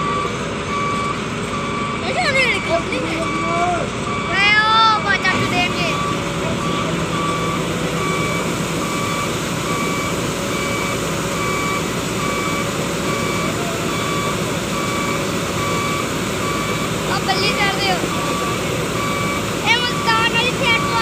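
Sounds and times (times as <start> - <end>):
combine harvester engine and machinery: 0.0 - 21.0
electronic warning beep: 0.0 - 21.0.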